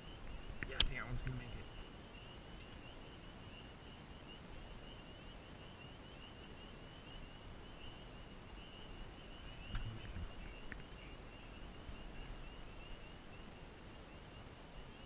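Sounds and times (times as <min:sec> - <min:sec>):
distant animal chorus trilling: 0:00.0 - 0:15.0
faint low hiss: 0:00.0 - 0:15.0.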